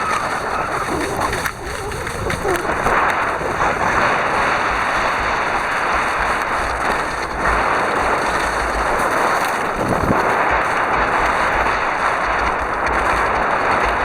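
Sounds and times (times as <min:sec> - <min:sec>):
skis sliding on snow: 0:00.0 - 0:14.0
wind buffeting microphone: 0:00.0 - 0:14.0.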